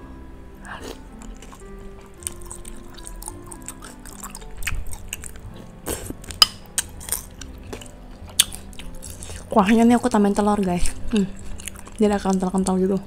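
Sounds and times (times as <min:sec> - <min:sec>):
faint background music: 0:00.0 - 0:13.0
wet chewing and mouth sounds: 0:00.6 - 0:09.8, 0:10.4 - 0:13.0.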